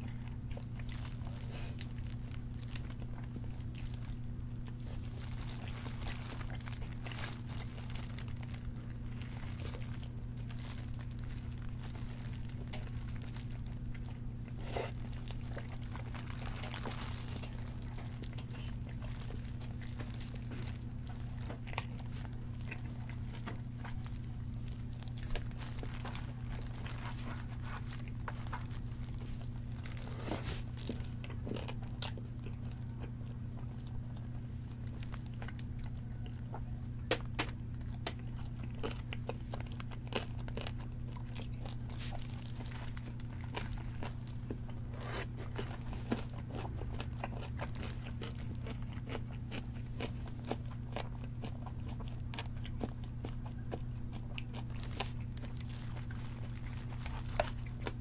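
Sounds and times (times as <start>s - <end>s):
crunchy chewing: 0.0s - 58.0s
low hum: 0.0s - 58.0s.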